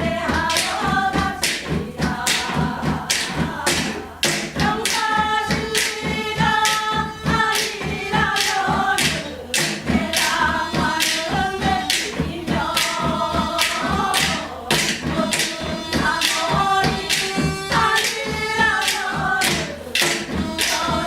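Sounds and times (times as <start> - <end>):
drum beat: 0.0 - 21.0
voices singing long bending notes: 0.0 - 21.0.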